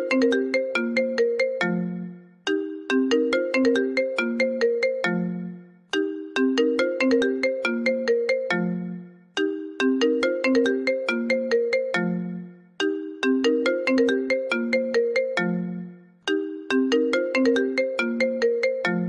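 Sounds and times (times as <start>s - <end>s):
marimba-like phone ringtone: 0.0s - 19.0s.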